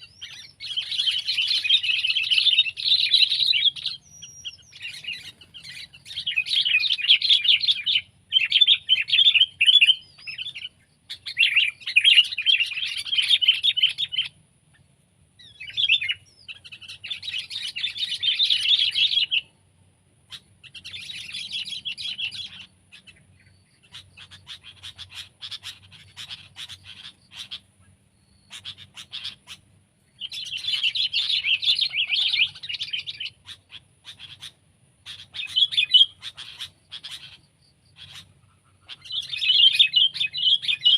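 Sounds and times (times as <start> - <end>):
bulbul singing chattering phrases: 0.0 - 14.8, 15.4 - 19.6, 20.2 - 40.9.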